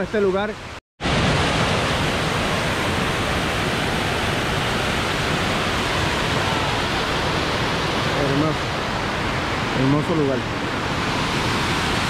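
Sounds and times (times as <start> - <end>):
waterfall rushing: 1.0 - 12.0.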